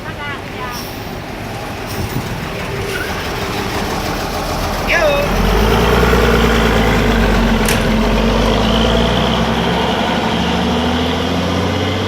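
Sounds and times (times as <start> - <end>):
bus diesel engine idling: 0.0 - 10.4.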